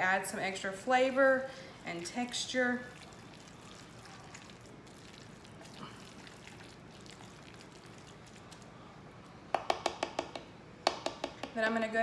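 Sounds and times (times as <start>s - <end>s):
wet stirring and mashing: 1.9s - 11.6s.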